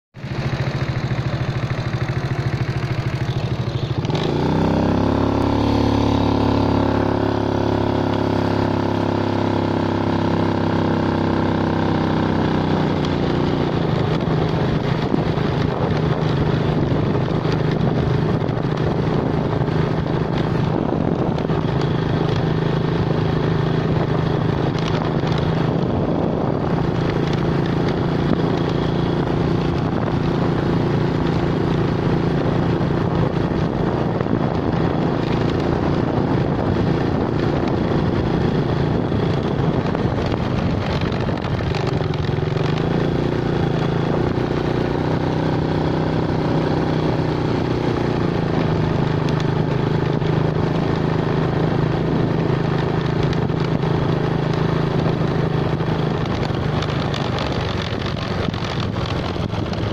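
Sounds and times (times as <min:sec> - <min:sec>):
vehicle engine running: 0:00.2 - 0:59.9
wind and road noise: 0:00.2 - 0:59.9.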